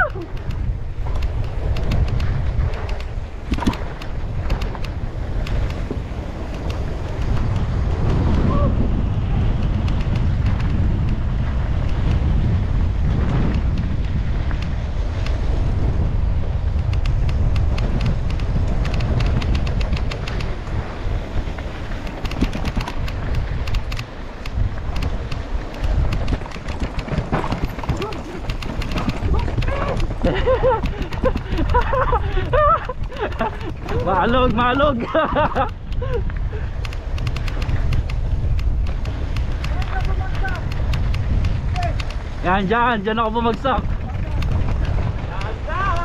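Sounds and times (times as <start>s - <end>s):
bike clicks and rattles: 0.0s - 46.0s
tyres rolling on dirt trail: 0.0s - 46.0s
wind buffeting microphone: 0.0s - 46.0s.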